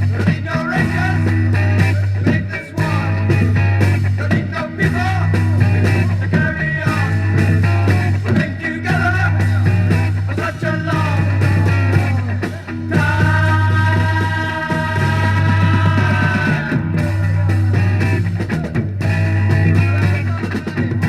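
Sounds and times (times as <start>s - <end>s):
bending lead guitar lines: 0.0s - 21.0s
psychedelic rock music: 0.0s - 21.0s
steady bass line: 0.0s - 21.0s.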